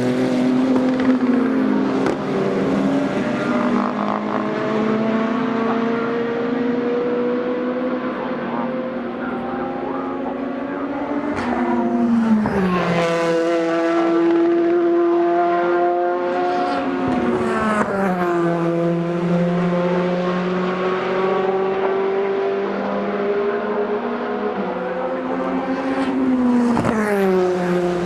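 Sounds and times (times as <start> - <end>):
race car engines running: 0.0 - 28.0.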